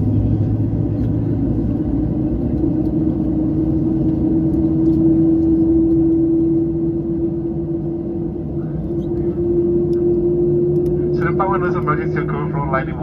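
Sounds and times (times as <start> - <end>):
airplane cabin rumble: 0.0 - 13.0
strong steady hum: 0.0 - 13.0.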